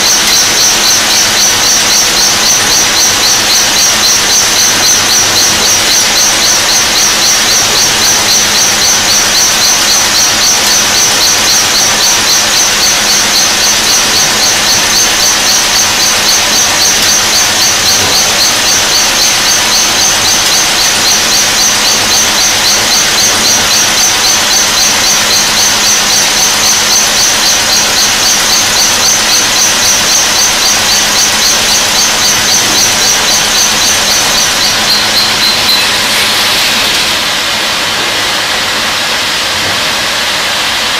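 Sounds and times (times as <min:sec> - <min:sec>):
cutting head with high whine: 0:00.0 - 0:40.9.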